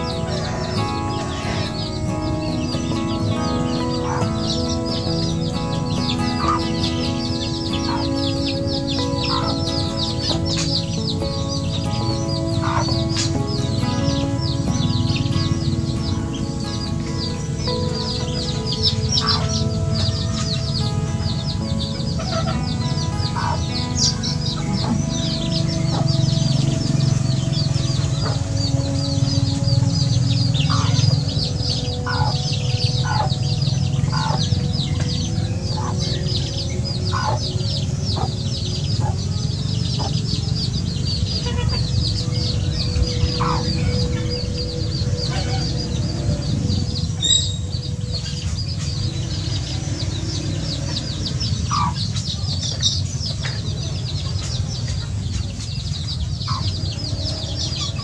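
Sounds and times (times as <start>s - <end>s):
chickens clucking: 0.0s - 58.0s
chicks peeping: 0.0s - 58.0s.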